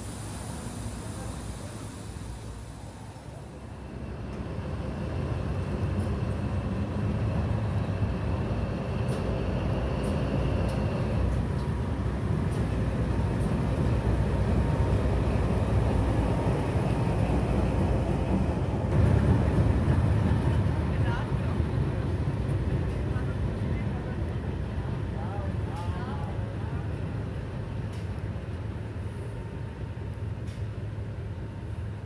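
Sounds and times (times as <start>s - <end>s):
diesel locomotive rumble: 0.0s - 32.0s.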